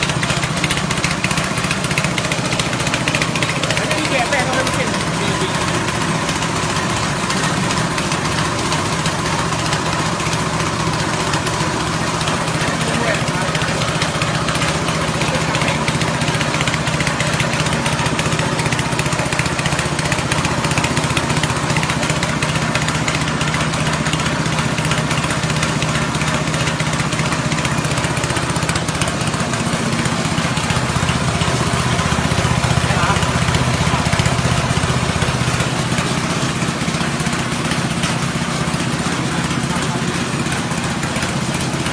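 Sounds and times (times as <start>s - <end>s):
grinding machine hiss: 0.0s - 41.9s
petrol engine running: 0.0s - 41.9s.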